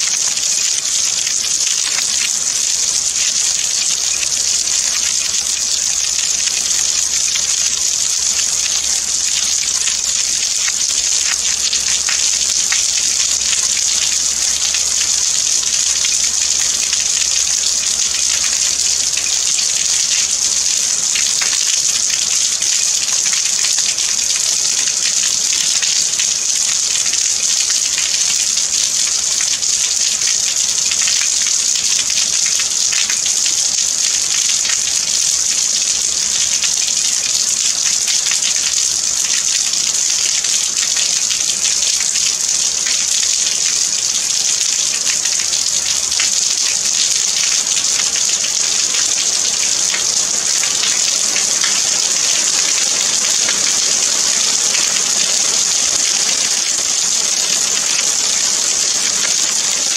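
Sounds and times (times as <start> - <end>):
steady rainfall hiss: 0.0 - 59.9.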